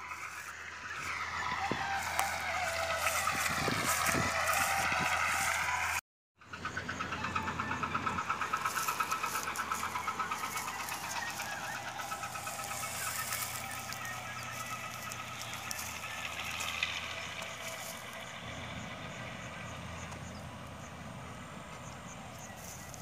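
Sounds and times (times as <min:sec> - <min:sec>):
motor engine running: 0:00.0 - 0:23.0.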